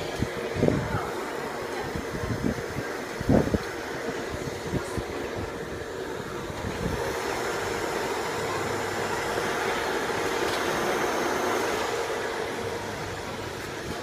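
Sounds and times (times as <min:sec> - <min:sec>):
water pump humming: 0:00.0 - 0:14.0.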